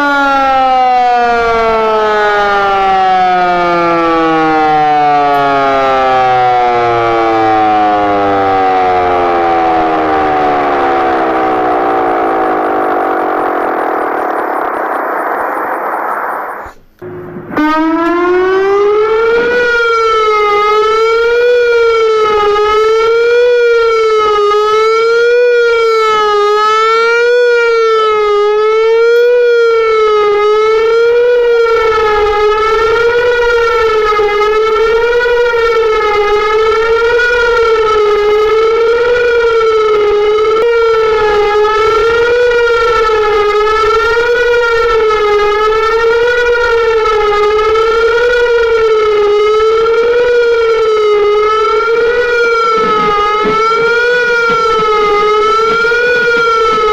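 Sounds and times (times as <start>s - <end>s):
warning siren wailing: 0.0s - 56.9s
warning siren winding down: 0.0s - 56.9s.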